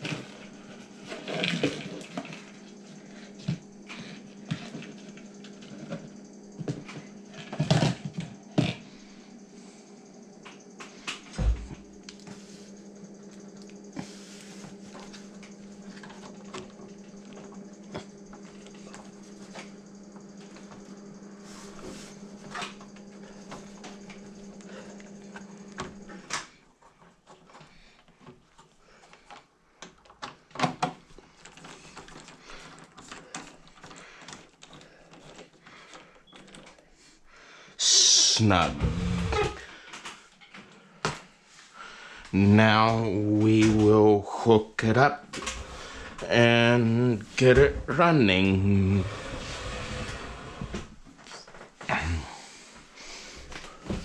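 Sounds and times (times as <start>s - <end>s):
steady low hum: 0.0s - 26.7s, 31.1s - 54.0s.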